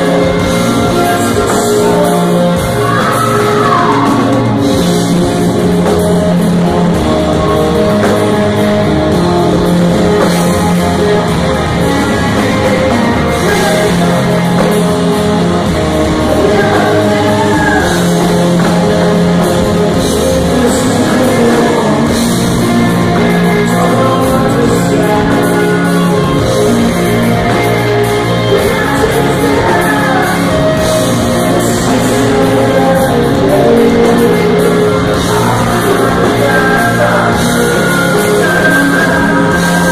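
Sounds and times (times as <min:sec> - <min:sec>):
man singing: 0:00.0 - 0:39.9
rock band playing: 0:00.0 - 0:39.9.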